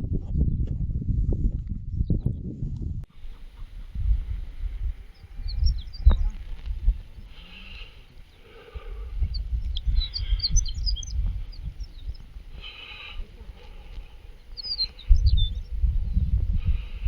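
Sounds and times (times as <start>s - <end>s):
uneven low rumble: 0.0s - 17.0s
small birds chirping: 3.1s - 17.0s.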